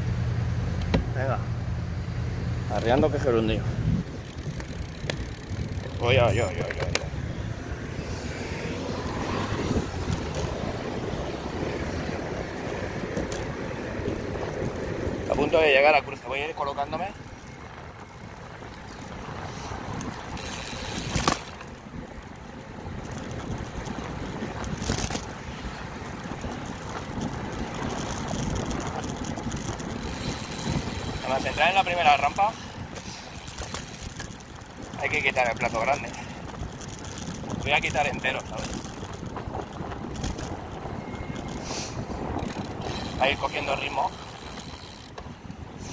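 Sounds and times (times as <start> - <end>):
wind buffeting microphone: 2.6 - 45.9.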